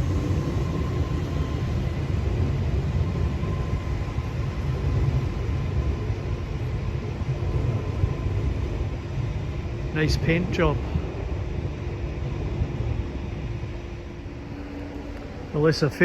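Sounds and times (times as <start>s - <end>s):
faint whine: 0.0s - 16.0s
train rumbling: 0.0s - 16.0s.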